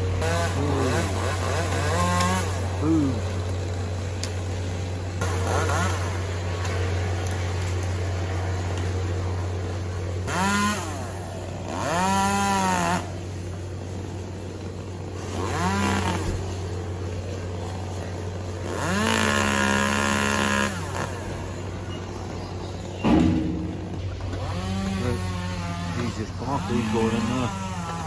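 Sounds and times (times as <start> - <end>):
chainsaw revving: 0.0 - 28.0
steady low hum: 0.0 - 28.0.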